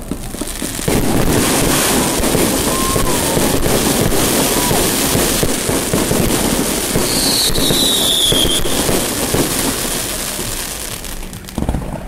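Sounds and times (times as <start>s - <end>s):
firework whistle: 0.0s - 12.0s
fireworks crackling: 0.0s - 12.0s
sharp firework bang: 0.0s - 12.0s.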